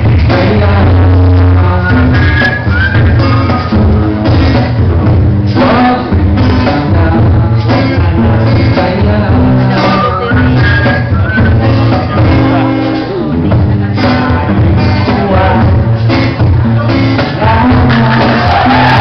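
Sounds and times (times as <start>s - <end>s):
cajon beat: 0.0s - 19.0s
man singing: 0.0s - 19.0s
strummed acoustic guitar: 0.0s - 19.0s.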